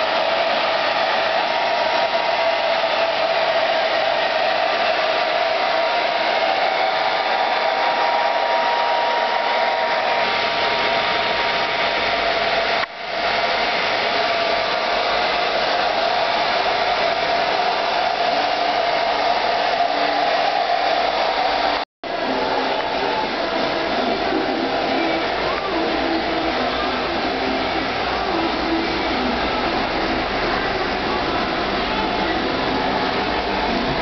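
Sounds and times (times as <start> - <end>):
hair dryer blowing: 0.0 - 34.0.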